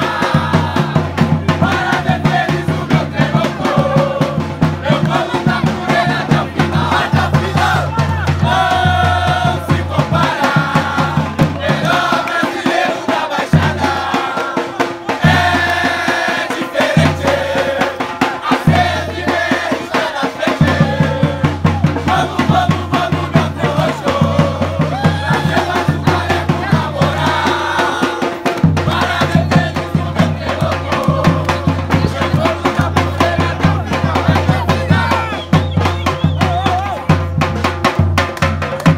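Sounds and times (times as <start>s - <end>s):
crowd chanting: 0.0s - 37.5s
fast dense drumming: 0.0s - 38.9s.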